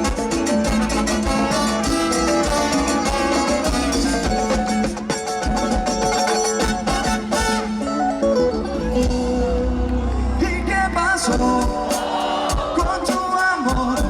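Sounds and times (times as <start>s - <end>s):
live dance band playing: 0.0s - 14.0s.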